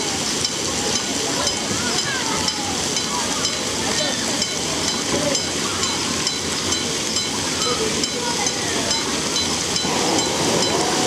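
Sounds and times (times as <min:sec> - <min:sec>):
water spraying and splashing: 0:00.0 - 0:11.0.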